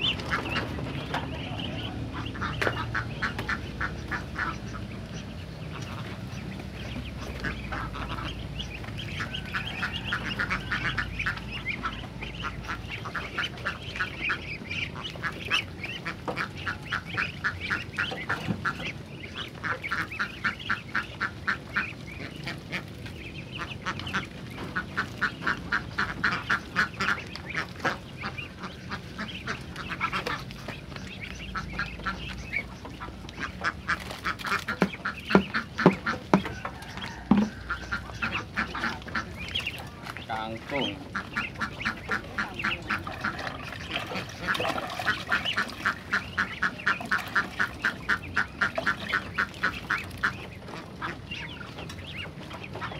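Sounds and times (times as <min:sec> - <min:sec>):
ducks quacking: 0:00.0 - 0:52.9.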